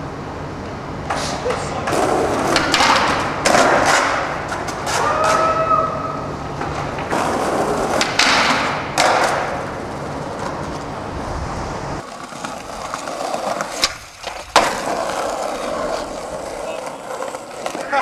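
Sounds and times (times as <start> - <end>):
skateboard wheels rolling on paving: 1.0 - 5.7, 6.4 - 18.0
skateboard clacks and scrapes: 1.1 - 5.5, 6.6 - 11.0, 12.0 - 18.0.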